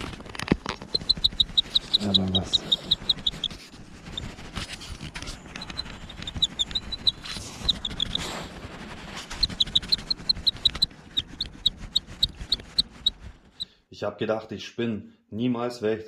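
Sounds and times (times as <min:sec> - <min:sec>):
rustling: 0:00.0 - 0:13.7.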